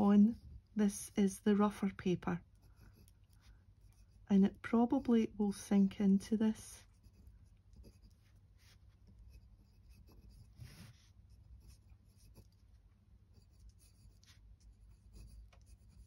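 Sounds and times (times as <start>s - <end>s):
pen nib scratching on paper: 0.0s - 16.0s.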